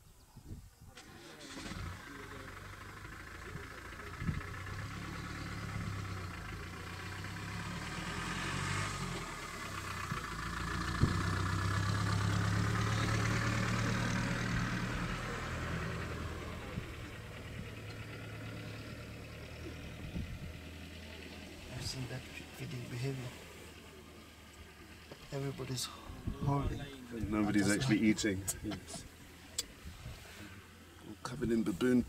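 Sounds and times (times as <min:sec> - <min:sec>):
vehicle engine idling: 0:00.8 - 0:32.0.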